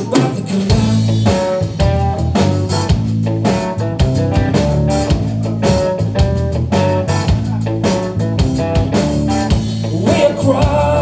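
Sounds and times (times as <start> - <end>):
blues band playing: 0.0 - 11.0.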